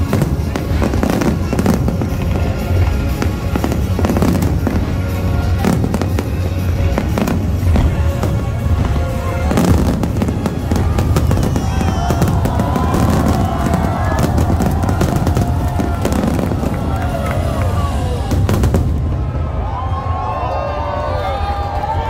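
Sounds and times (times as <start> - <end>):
fireworks banging and crackling: 0.0 - 19.9
music: 0.0 - 22.0.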